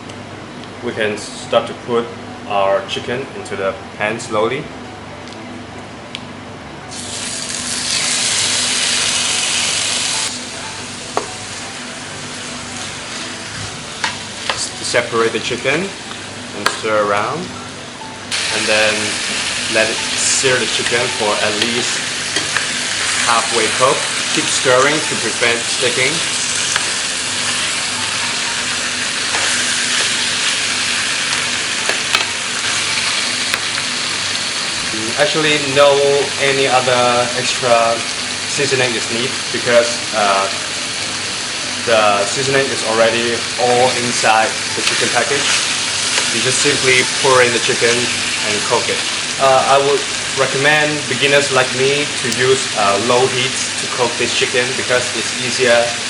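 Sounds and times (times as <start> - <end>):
chicken sizzling in hot oil: 6.9 - 16.7, 18.3 - 56.0.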